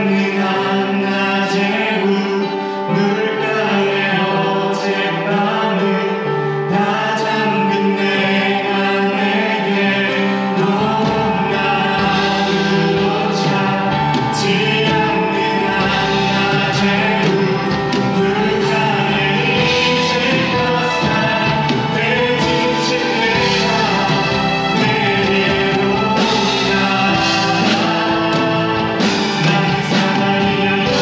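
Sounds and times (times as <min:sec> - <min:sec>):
band with keyboards: 0:00.0 - 0:31.0
group singing worship music: 0:00.0 - 0:31.0.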